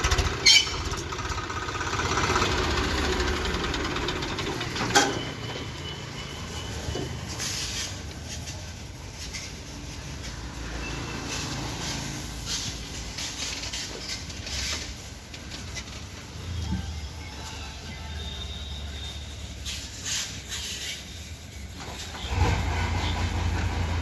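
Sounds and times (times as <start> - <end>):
rattling scraping of waste: 0.0 - 17.2, 19.0 - 24.0
diesel engine running: 0.0 - 20.0, 21.4 - 24.0.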